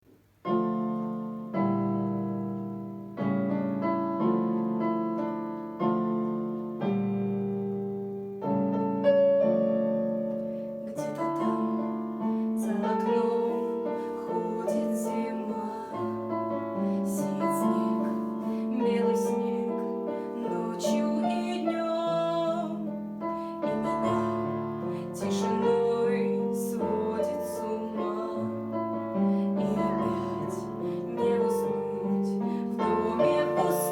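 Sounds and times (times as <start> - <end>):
piano chords: 0.2 - 33.9
piano melody: 0.3 - 33.9.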